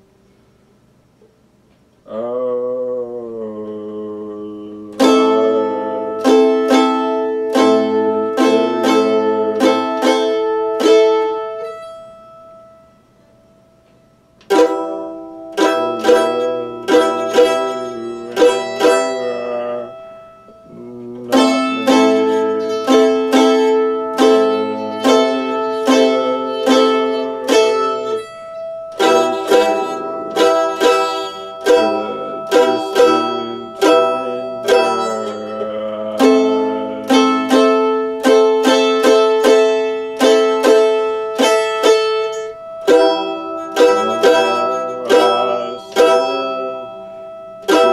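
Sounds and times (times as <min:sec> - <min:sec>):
mandolin picked notes: 0:02.1 - 0:47.9.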